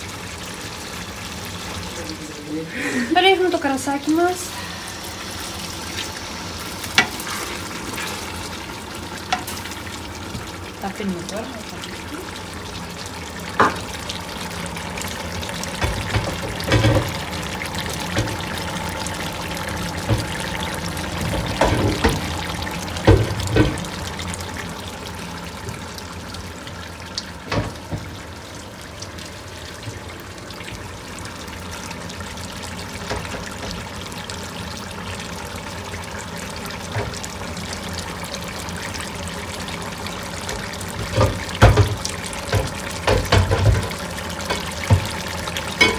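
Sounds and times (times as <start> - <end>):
food bubbling in a pot: 0.0 - 45.9.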